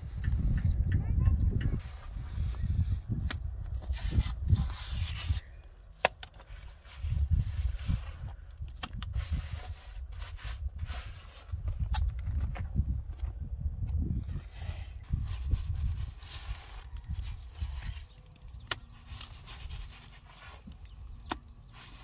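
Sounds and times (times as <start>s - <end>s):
mortar scraping and rubbing: 1.8s - 5.7s, 6.3s - 13.3s, 14.2s - 22.0s.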